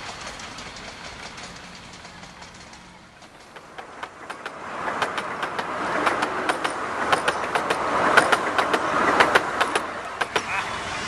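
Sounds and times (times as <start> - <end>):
miniature train passing: 0.0 - 11.0
wheels clicking over rail joints: 0.0 - 11.0.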